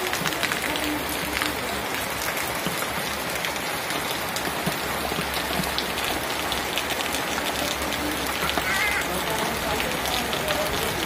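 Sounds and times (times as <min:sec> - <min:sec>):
heavy rain on leaves and ground: 0:00.0 - 0:11.0.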